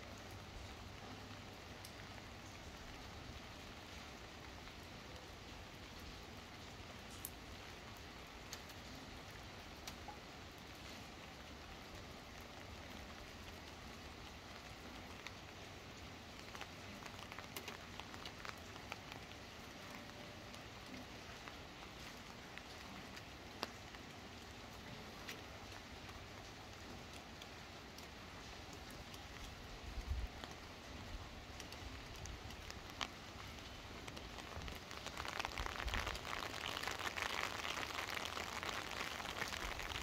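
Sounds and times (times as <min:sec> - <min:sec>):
rain on paved street: 0:00.0 - 0:40.0
raindrops ticking nearby: 0:00.0 - 0:40.0.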